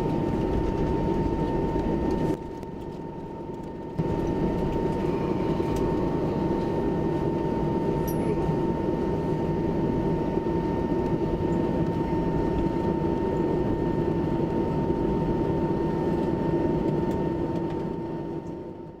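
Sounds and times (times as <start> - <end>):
jet engines rumbling and whining: 0.0 - 19.0.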